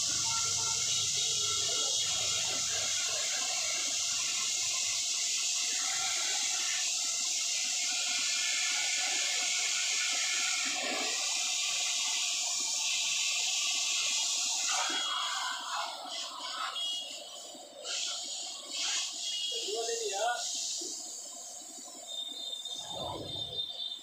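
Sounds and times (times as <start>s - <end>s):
hose water spraying on a car: 0.0s - 23.9s.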